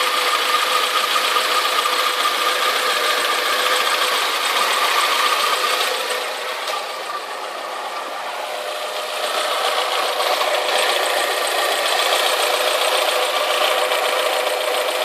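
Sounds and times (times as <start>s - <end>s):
car engine idling: 0.0s - 15.0s
engine ticking: 0.0s - 15.0s.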